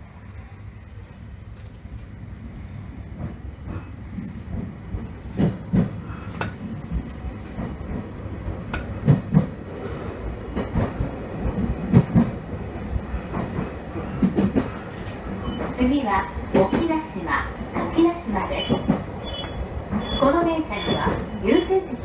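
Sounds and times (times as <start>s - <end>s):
low train rumble: 0.0s - 22.0s
train wheels clacking over rail joints: 3.1s - 21.6s.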